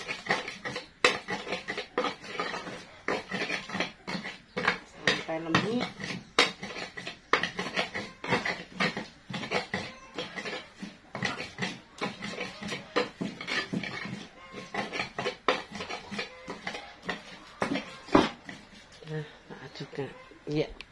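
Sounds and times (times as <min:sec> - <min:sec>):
stone pestle grinding in mortar: 0:00.0 - 0:19.1.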